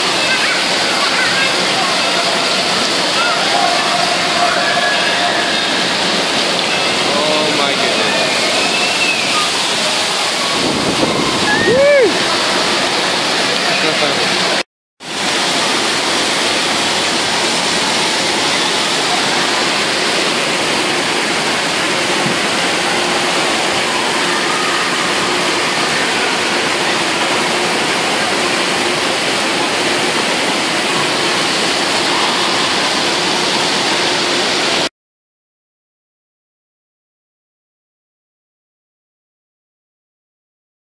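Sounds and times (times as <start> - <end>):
water rushing down slides: 0.0 - 34.9.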